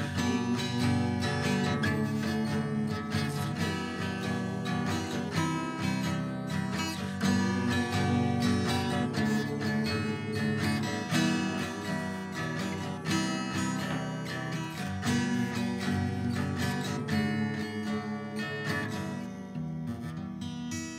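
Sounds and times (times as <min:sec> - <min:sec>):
acoustic guitar strumming and picking: 0:00.0 - 0:20.9.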